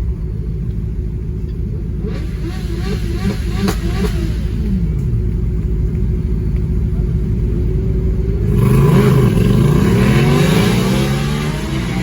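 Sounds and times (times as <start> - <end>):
car engines rumbling and revving: 0.0 - 12.0.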